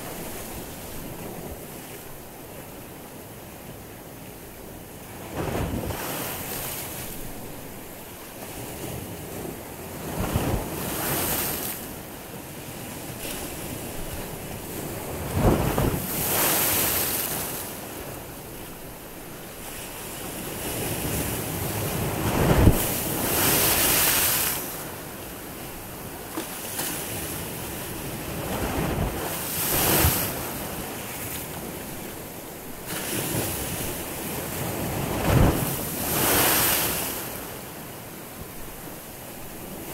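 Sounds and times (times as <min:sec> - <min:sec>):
sea waves breaking on shore: 0:00.0 - 0:02.8, 0:04.9 - 0:39.9.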